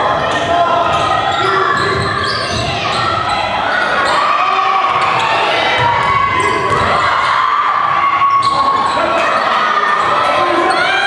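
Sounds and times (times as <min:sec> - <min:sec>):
crowd chatter and shouts: 0:00.0 - 0:11.0.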